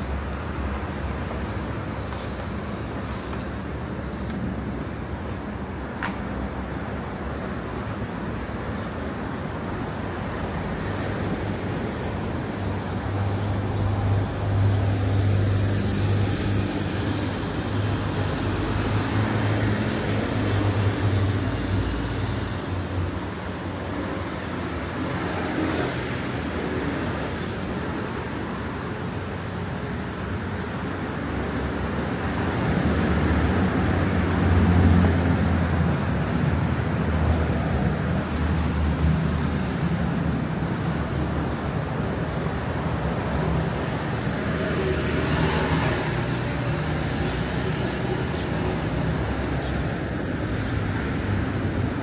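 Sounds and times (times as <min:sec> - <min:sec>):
cars passing: 0:00.0 - 0:52.0
low traffic hum: 0:00.0 - 0:52.0.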